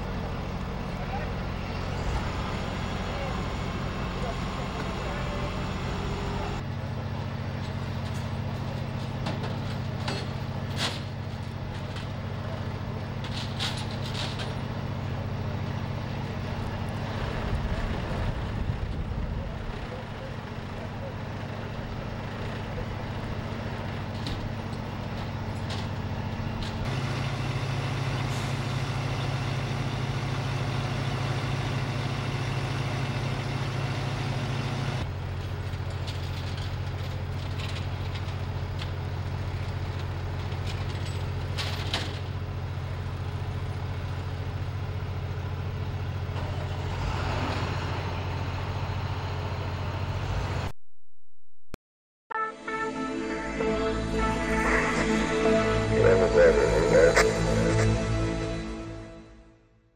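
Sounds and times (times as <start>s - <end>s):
heavy truck engines idling: 0.0s - 50.7s, 52.8s - 59.1s.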